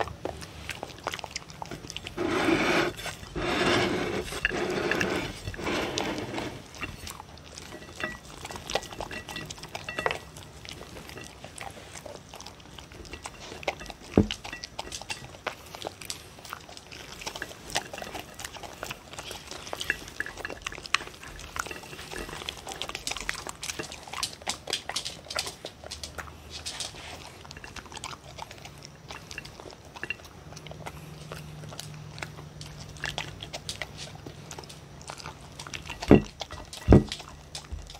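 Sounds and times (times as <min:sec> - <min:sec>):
dogs chewing kibble: 0:00.0 - 0:37.9.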